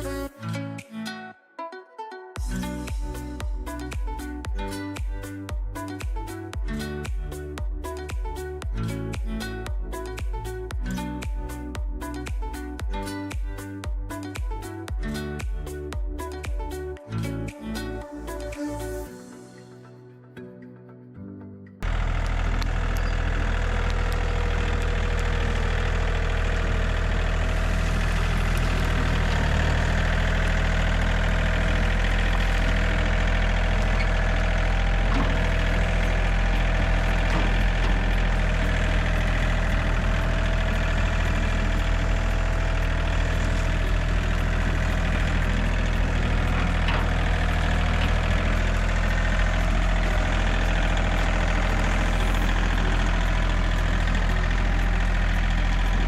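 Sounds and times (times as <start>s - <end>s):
tractor diesel engine running: 0.0s - 0.3s, 2.4s - 19.1s, 21.8s - 56.0s.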